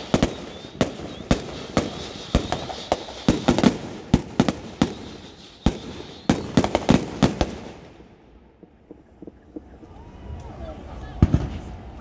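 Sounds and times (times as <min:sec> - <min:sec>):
firecrackers banging: 0:00.0 - 0:10.0.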